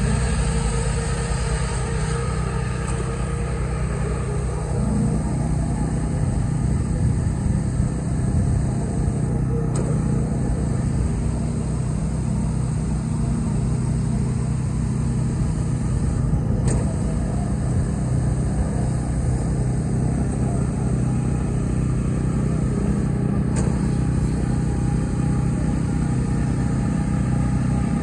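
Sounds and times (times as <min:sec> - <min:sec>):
engine running steady drone: 0:00.0 - 0:28.0.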